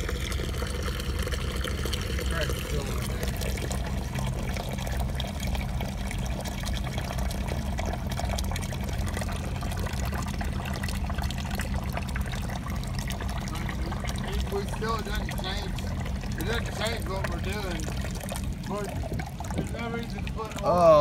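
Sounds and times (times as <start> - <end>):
fluid trickling into a pan: 0.0 - 21.0
steady low rumble: 0.0 - 21.0.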